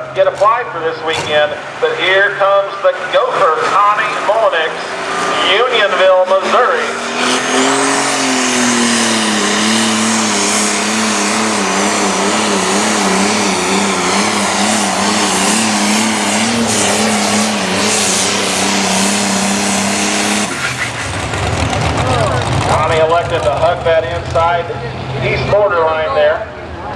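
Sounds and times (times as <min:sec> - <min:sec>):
diesel engine running hard: 0:00.0 - 0:26.9.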